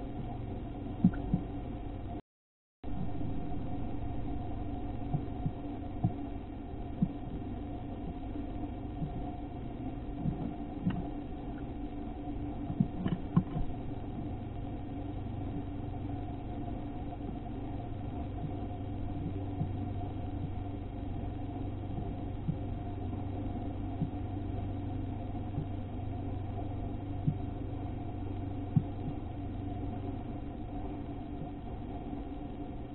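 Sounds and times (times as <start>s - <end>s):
steady low hum: 0.0s - 2.2s, 2.8s - 32.9s.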